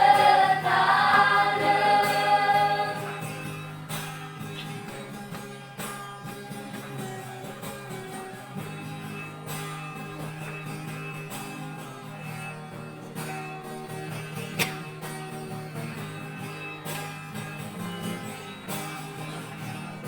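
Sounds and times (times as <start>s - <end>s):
guitar strumming chords: 0.0s - 20.0s.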